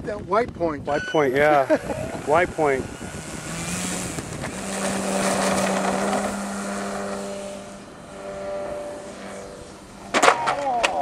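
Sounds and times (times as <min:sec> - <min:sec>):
model plane motor drone: 0:01.4 - 0:11.0.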